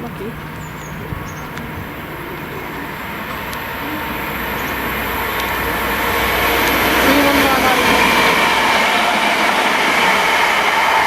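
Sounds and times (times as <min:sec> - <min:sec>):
train rumble and rail noise: 0:00.0 - 0:11.0.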